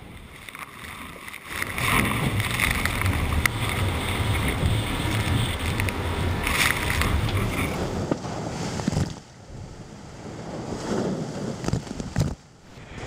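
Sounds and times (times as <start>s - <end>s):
water and spray rushing: 0.0s - 13.0s
wind rumble on microphone: 0.0s - 13.0s.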